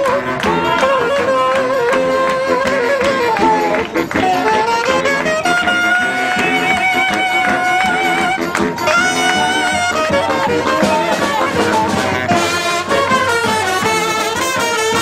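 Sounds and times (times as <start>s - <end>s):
brass band accompaniment: 0.0s - 15.0s
saxophone melody: 0.0s - 15.0s.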